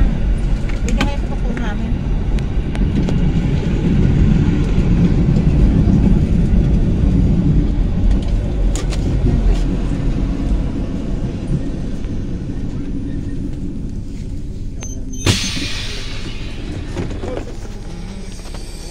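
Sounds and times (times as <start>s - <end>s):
vehicle interior rumble: 0.0s - 18.9s.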